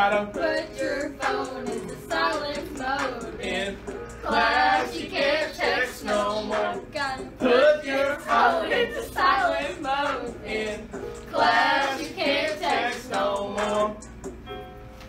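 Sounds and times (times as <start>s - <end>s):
girls singing in unison: 0.0s - 14.0s.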